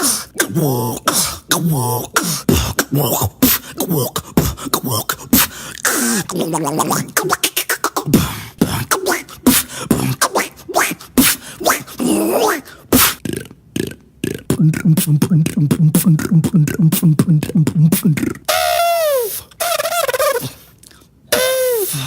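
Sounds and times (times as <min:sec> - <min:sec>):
person beatboxing: 0:00.0 - 0:22.0.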